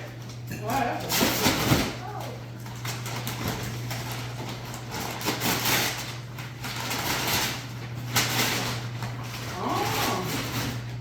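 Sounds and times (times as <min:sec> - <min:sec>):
wrapping paper tearing: 0:01.0 - 0:11.0.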